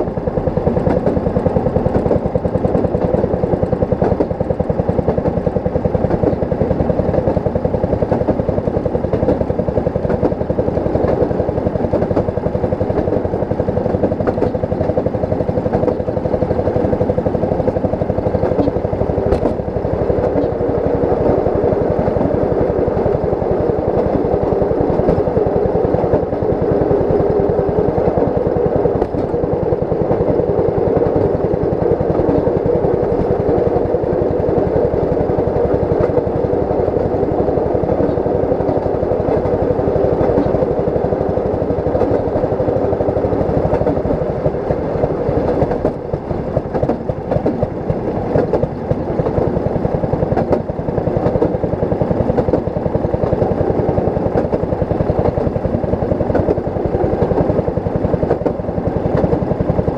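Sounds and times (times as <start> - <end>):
steel wheels clattering on track: 0.0 - 59.9.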